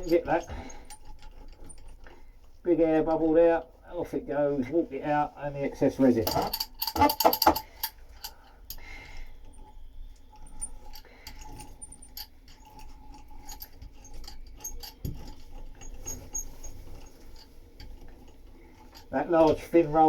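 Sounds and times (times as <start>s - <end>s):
faint irregular clicks and pattering: 0.0s - 3.9s, 5.4s - 20.0s.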